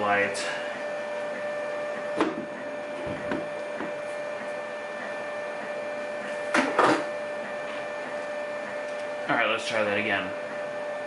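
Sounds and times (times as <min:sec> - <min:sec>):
electrical hum with whine: 0:00.0 - 0:11.0.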